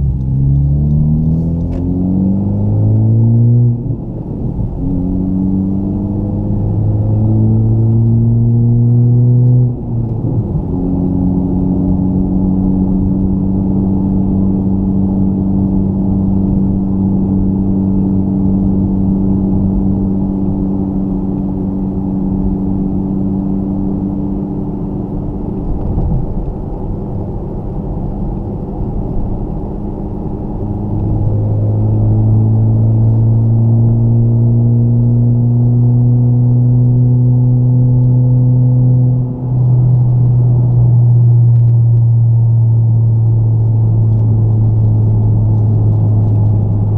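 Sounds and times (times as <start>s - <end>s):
car exhaust drone: 0.0s - 46.9s.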